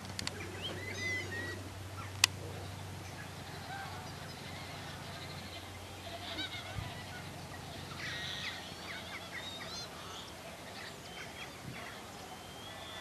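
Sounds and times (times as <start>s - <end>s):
wild birds calling: 0.0s - 13.0s.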